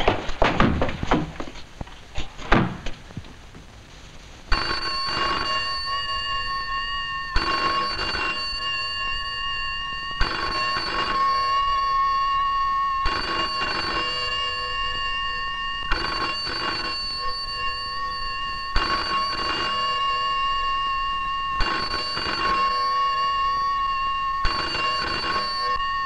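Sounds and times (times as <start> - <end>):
steady high tone: 4.5 - 26.0
telephone bell double ring: 4.5 - 26.0.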